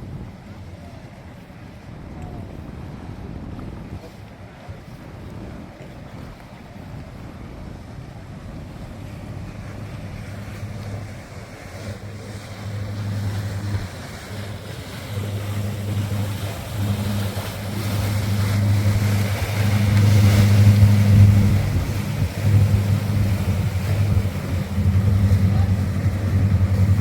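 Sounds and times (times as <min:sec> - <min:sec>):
low engine hum: 0:00.0 - 0:27.0
wind noise on microphone: 0:00.0 - 0:27.0.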